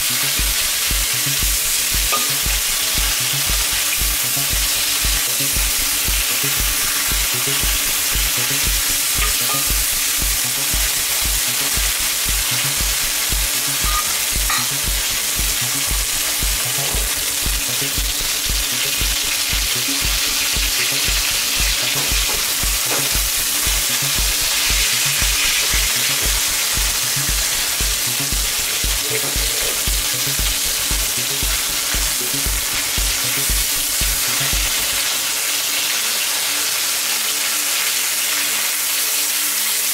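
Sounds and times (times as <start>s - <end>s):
steady low thumping beat: 0.0s - 35.0s
meat sizzling in a wok: 0.0s - 39.9s.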